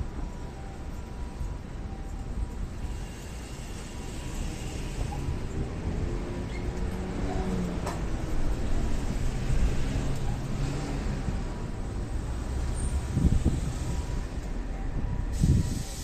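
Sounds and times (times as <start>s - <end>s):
train rumbling at station: 0.0s - 16.0s.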